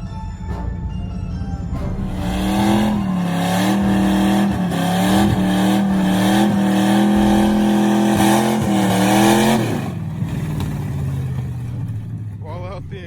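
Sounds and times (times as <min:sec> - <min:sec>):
car engine revving: 0:00.4 - 0:13.0.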